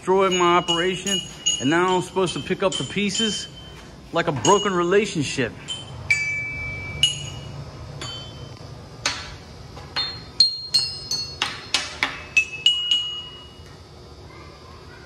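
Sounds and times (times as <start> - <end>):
sharp ringing clinks: 0.0 - 8.6, 10.0 - 13.6.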